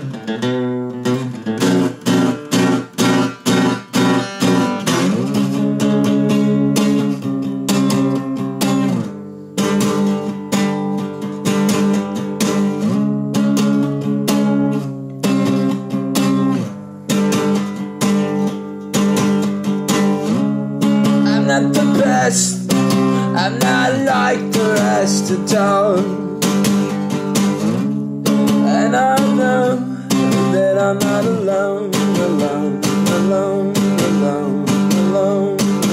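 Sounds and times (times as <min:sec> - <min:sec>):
guitar strumming chords: 0:00.0 - 0:35.9.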